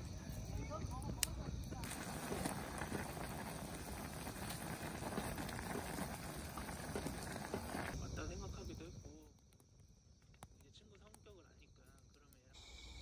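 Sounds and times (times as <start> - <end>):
pot boiling with bubbling pops: 0.0 - 13.0.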